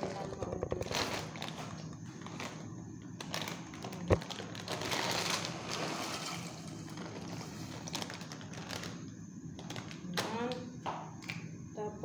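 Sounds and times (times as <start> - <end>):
plastic bag rustling: 0.0 - 10.2.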